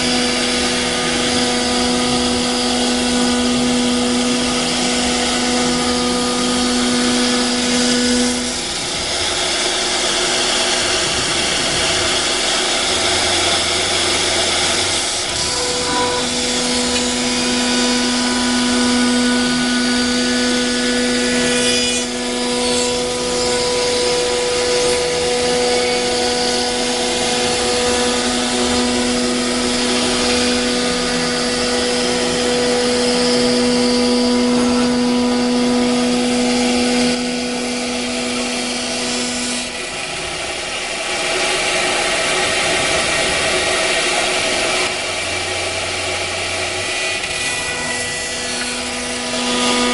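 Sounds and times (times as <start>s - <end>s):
router cutting hiss: 0.0s - 49.9s
spindle high whine: 0.0s - 49.9s.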